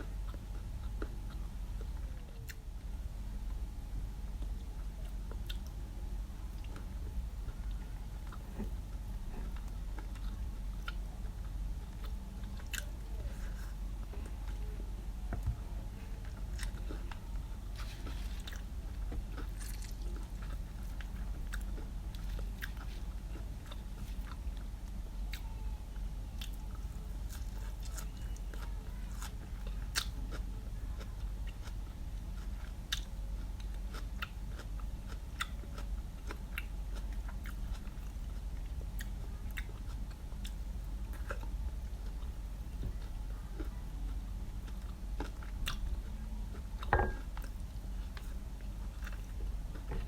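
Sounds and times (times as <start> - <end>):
chewing crunchy food: 0.0 - 50.0
steady low hum: 0.0 - 50.0.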